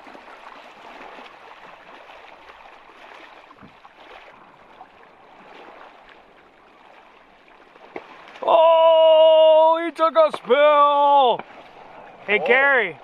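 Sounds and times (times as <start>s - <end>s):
water sloshing from wading: 0.0s - 13.0s.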